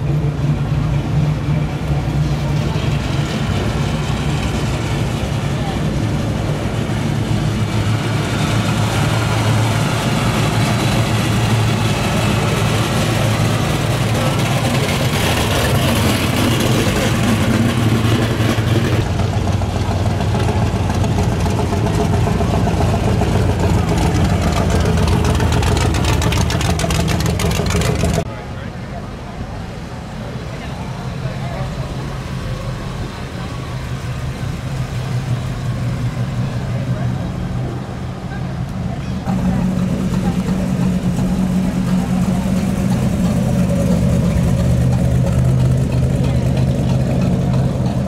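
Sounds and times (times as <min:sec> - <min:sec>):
cars driving past rumbling: 0:00.0 - 0:48.0.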